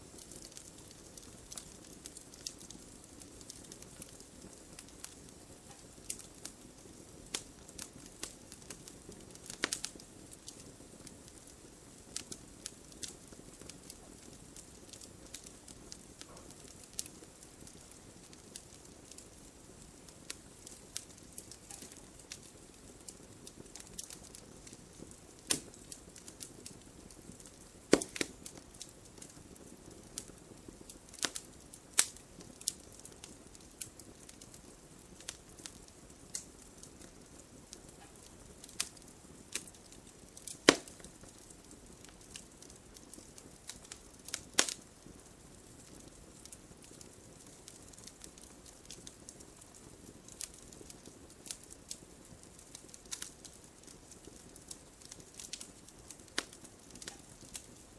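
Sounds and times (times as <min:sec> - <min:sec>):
fire hissing: 0:00.0 - 0:48.1, 0:48.8 - 0:57.9
logs crackling and popping: 0:00.0 - 0:57.9.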